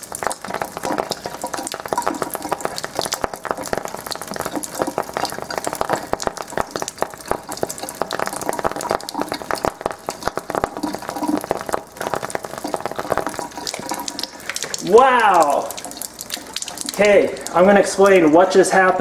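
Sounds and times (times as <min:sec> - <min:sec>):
crackling and popping: 0:00.0 - 0:18.6
water running into sink: 0:00.0 - 0:19.0.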